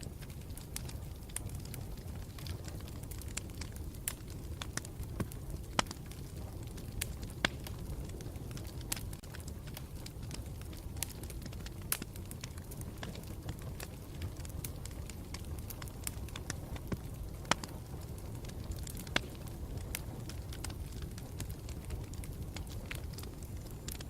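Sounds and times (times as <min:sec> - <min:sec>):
campfire rumbling: 0:00.0 - 0:24.0
fire crackles and pops: 0:00.0 - 0:24.0.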